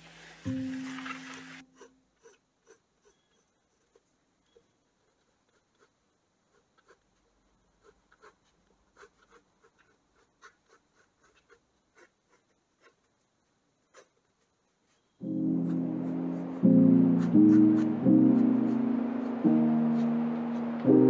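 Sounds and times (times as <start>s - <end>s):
pencil scratching on paper: 1.6s - 21.0s.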